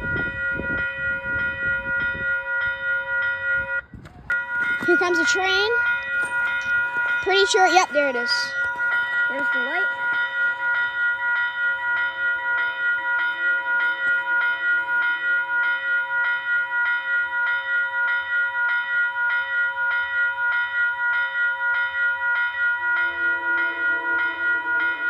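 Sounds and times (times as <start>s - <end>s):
railroad crossing bell ringing: 0.0s - 25.0s.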